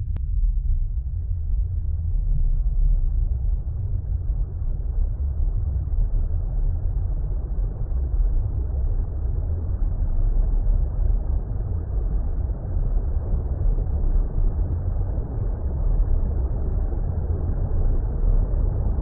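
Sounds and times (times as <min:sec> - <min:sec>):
deep underwater rumble: 0:00.0 - 0:19.0.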